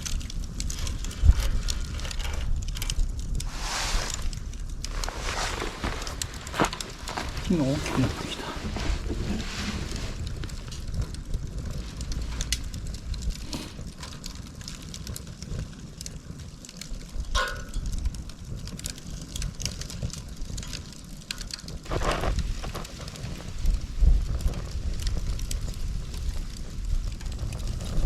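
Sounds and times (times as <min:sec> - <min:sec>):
bamboo fire crackling and popping: 0:00.0 - 0:28.0
wind rumble on microphone: 0:00.0 - 0:28.0.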